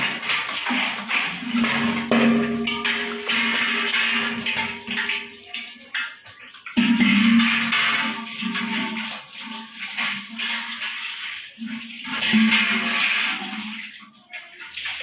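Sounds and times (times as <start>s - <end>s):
hands scrubbing metal pot: 0.0s - 15.0s
water splashing: 0.0s - 15.0s.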